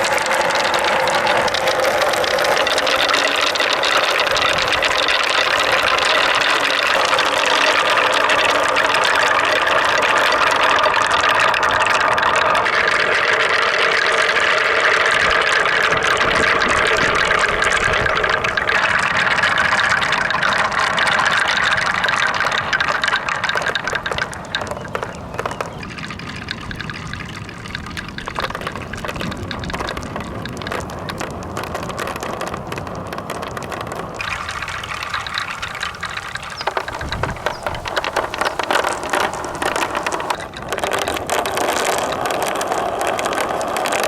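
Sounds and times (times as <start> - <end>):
marbles clicking: 0.0 - 44.0
marbles rolling on wood and plastic: 0.0 - 44.0.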